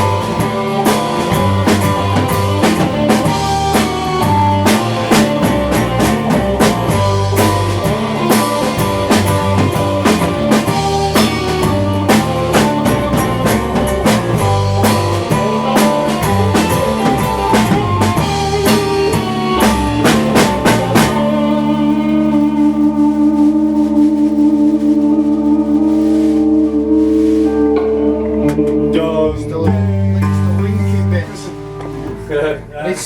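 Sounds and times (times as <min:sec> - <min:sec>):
held guitar chord ringing: 0:00.0 - 0:33.0
rock band playing: 0:00.0 - 0:33.0.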